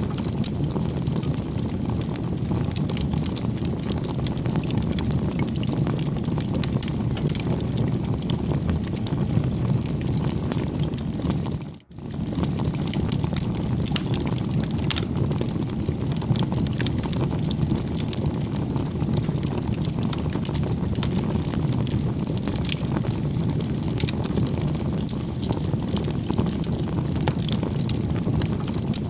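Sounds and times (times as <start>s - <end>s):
fire popping and snapping: 0.0s - 29.0s
low rumble of flames: 0.0s - 29.0s.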